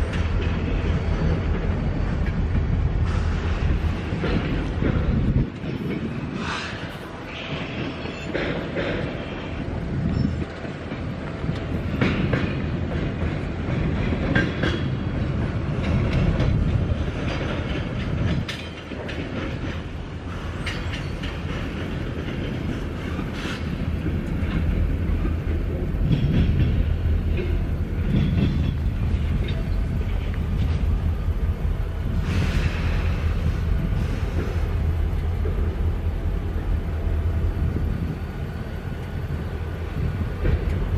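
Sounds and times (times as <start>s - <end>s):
train rumbling past: 0.0s - 40.9s
wheels clattering over rail joints: 0.0s - 40.9s.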